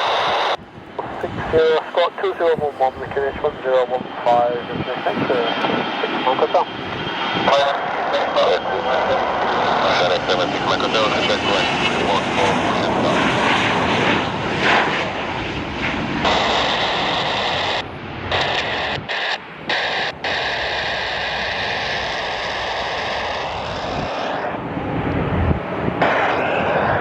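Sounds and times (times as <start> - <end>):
jet engine whine: 0.0 - 27.0
jet engines roaring: 0.0 - 27.0.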